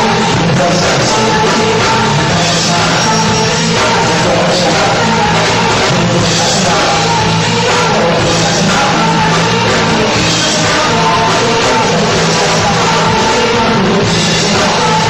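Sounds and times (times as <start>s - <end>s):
lead vocals: 0.0s - 15.0s
live rock band playing: 0.0s - 15.0s.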